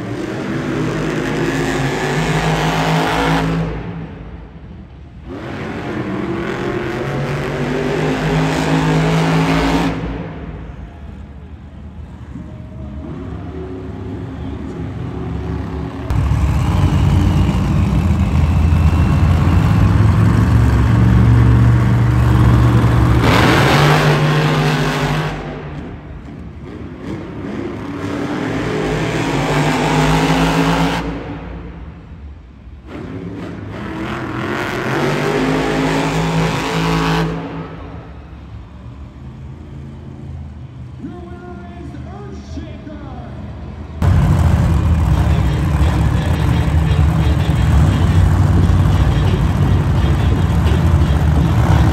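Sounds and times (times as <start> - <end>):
monster truck engine revving: 0.0 - 4.2, 5.0 - 11.2, 12.0 - 41.0, 44.0 - 51.9.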